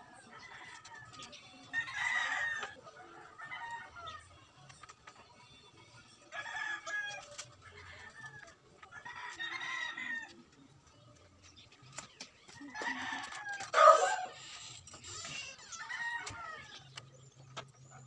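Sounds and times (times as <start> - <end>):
chickens calling faintly: 0.0 - 18.0.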